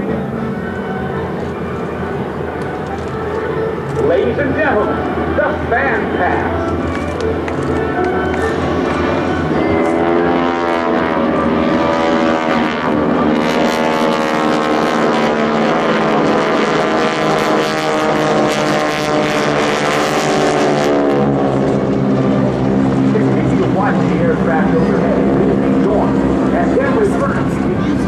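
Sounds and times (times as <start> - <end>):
propeller aircraft droning overhead: 0.0 - 28.0.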